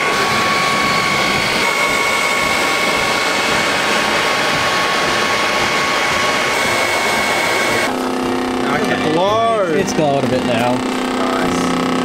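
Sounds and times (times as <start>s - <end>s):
electric leaf blower whine: 0.0s - 12.0s.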